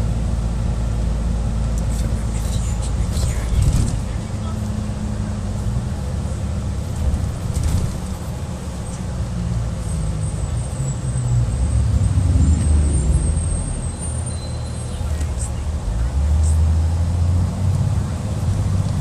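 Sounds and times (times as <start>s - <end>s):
car rumbling on bumpy road: 0.0s - 19.0s.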